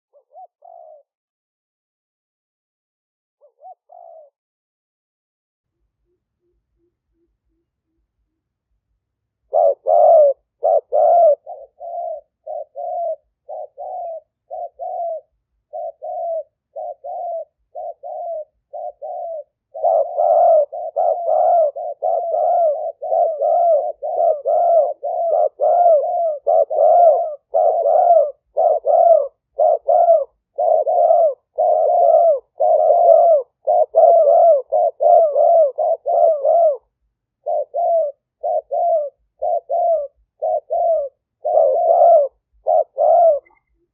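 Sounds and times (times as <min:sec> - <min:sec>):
dove cooing: 0:00.1 - 0:01.2, 0:03.4 - 0:04.4, 0:09.4 - 0:43.9.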